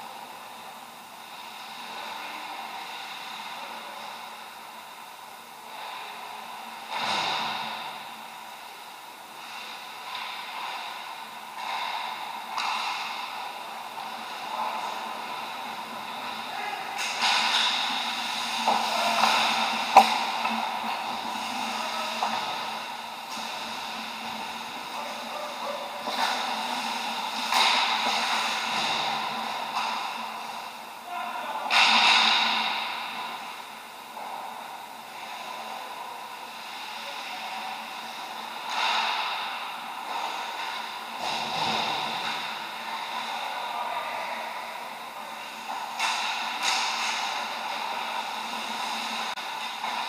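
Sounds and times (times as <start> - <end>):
steady background hum: 0.0 - 50.0.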